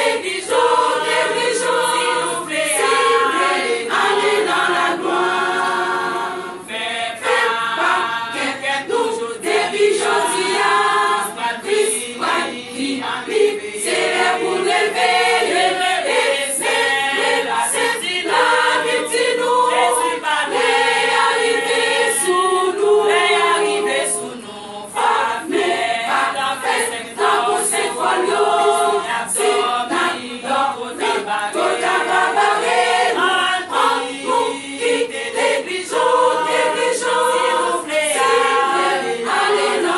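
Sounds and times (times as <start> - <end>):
women's choir singing: 0.0 - 39.9.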